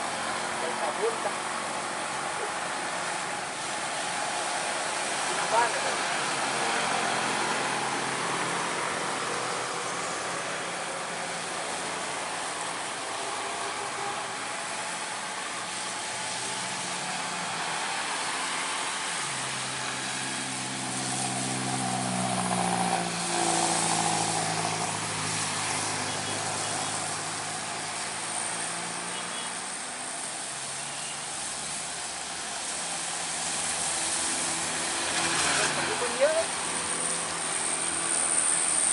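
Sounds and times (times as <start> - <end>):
traffic and tyres hissing: 0.0 - 38.9.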